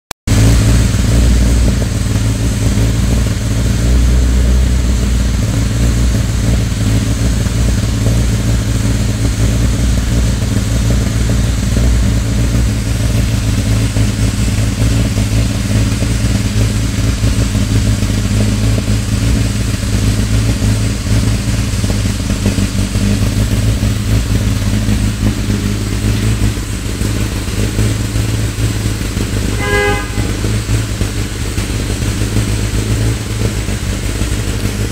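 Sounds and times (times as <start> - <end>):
car engine running steadily: 0.2 - 34.9.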